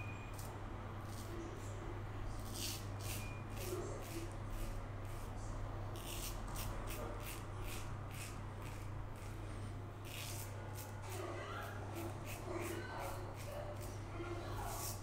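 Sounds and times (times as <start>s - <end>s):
razor scraping stubble: 0.3s - 1.4s, 2.4s - 5.3s, 5.9s - 9.4s, 10.0s - 15.0s.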